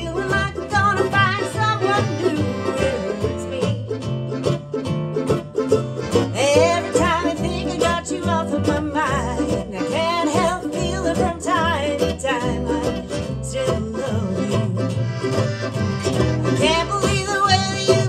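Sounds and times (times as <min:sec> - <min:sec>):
accordion: 0:00.0 - 0:18.0
acoustic guitar: 0:00.0 - 0:18.0
fiddle: 0:00.0 - 0:18.0
upright bass: 0:00.0 - 0:18.0.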